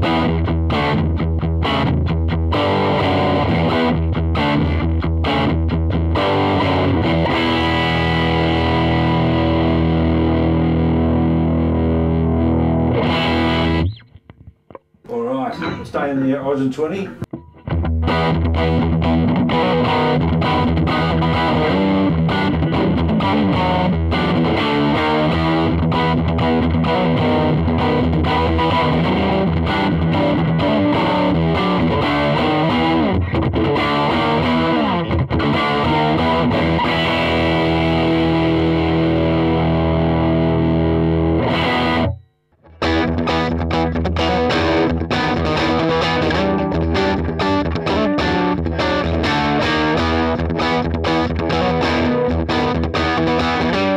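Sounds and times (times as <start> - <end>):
distorted electric guitar chord: 0.0 - 14.2, 17.4 - 53.9.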